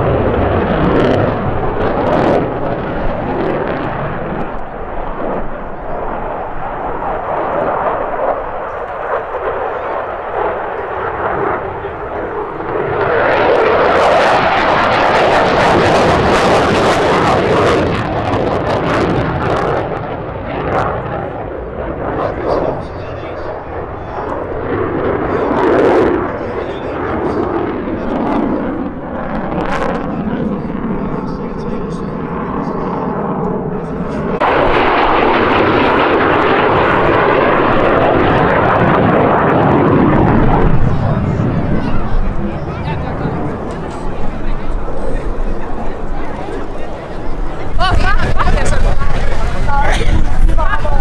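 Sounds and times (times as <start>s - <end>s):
jet flying past: 0.0s - 51.0s.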